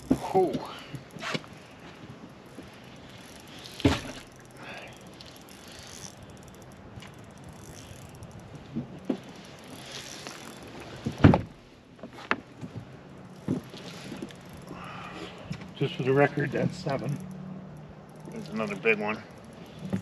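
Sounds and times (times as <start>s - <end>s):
fishing reel clicking and whirring: 0.0s - 11.6s, 13.0s - 20.0s.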